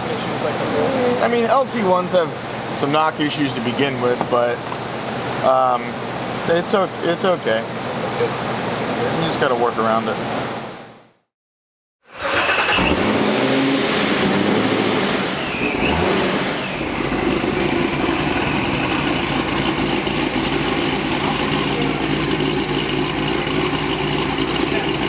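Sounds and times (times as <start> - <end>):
car engine running hard: 0.0 - 9.1, 12.2 - 25.0.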